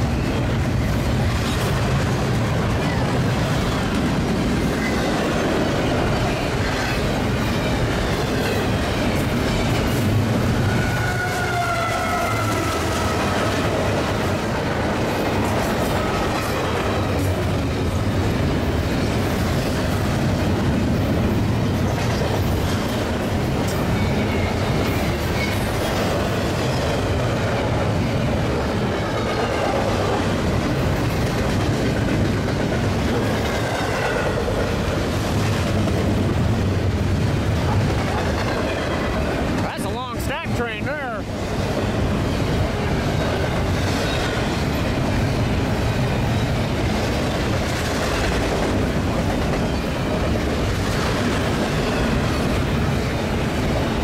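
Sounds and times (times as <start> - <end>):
train wheels rolling on rail: 0.0 - 54.0.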